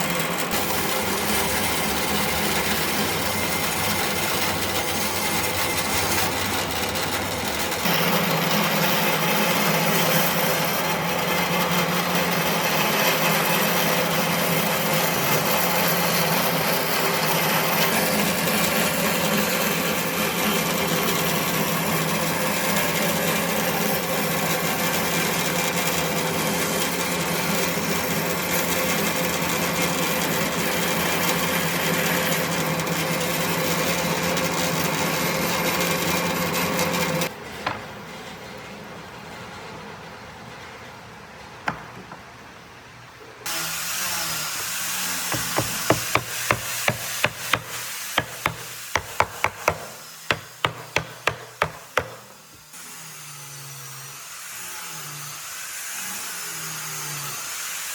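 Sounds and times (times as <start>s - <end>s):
power tool working wood: 0.0s - 37.3s, 43.4s - 57.9s.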